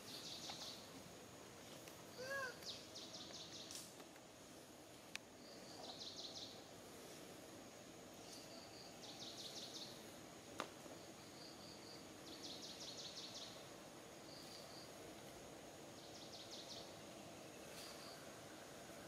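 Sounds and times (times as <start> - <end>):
steady high hum: 0.0 - 19.0.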